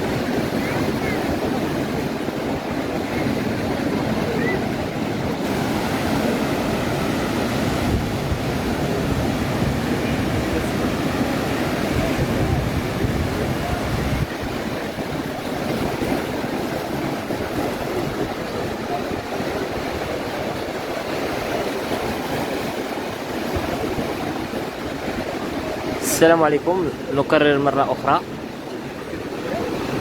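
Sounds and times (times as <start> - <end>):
wind buffeting microphone: 0.0 - 26.0
surf washing on shore: 0.0 - 30.0.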